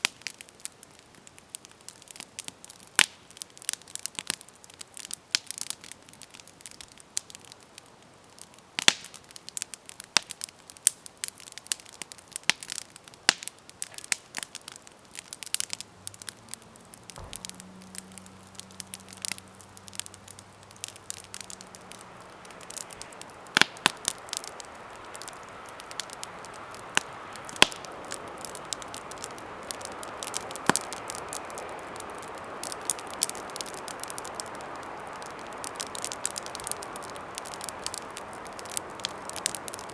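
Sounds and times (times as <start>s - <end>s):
campfire crackling and popping: 0.0s - 39.9s
steady hiss: 2.7s - 39.9s.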